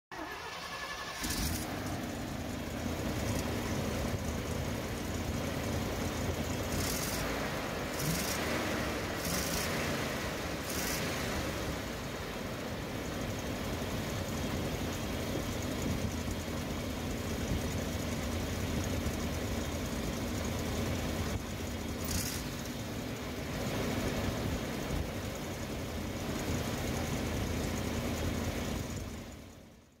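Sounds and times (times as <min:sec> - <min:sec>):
truck engine running: 0:00.1 - 0:30.0.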